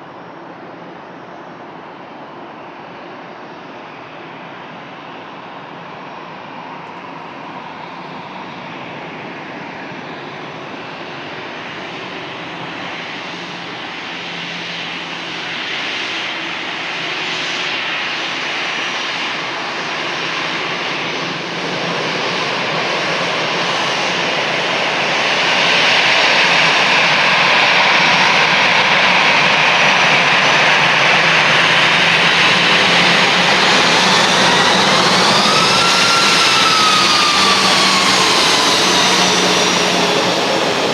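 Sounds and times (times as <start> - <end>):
jet airliner engines: 0.0 - 40.9.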